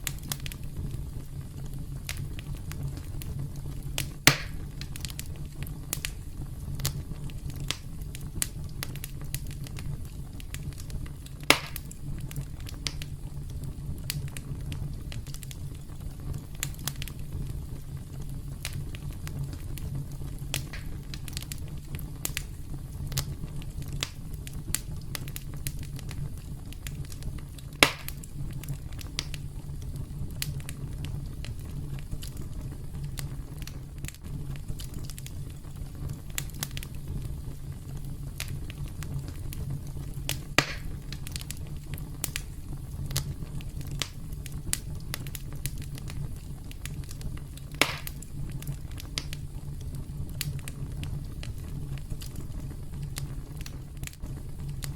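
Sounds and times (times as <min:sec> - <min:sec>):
campfire crackling: 0:00.0 - 0:54.9
loud pops from fire: 0:00.0 - 0:54.9.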